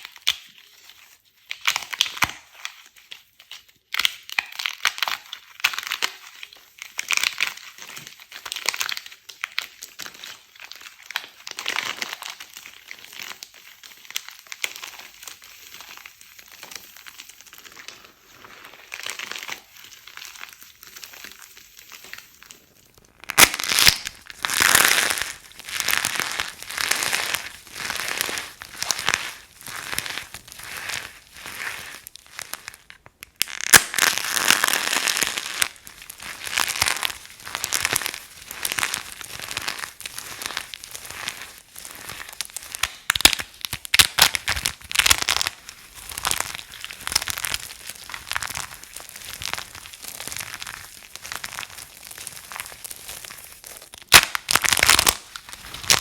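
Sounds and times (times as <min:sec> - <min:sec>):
bar soap crunching: 0:03.9 - 0:56.0.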